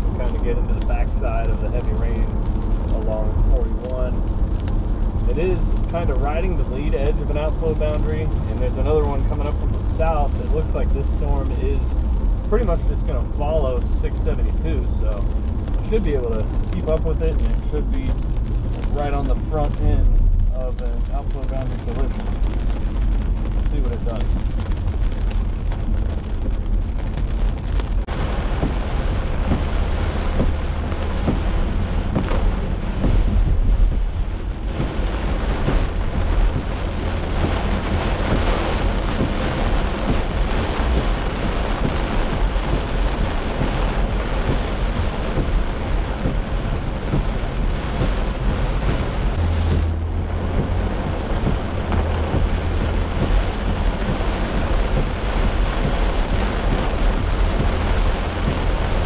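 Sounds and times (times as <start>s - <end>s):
heavy rain on car roof: 0.0s - 59.0s
low road rumble: 0.0s - 59.0s.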